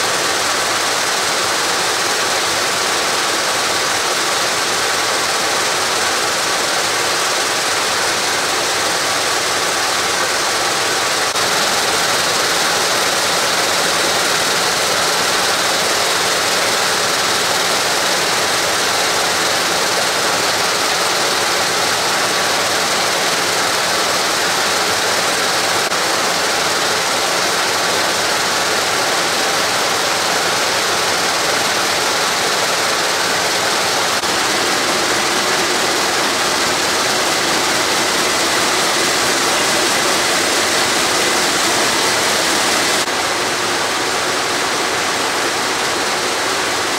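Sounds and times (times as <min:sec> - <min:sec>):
braiding machines whirring and clattering: 0:00.0 - 0:46.9.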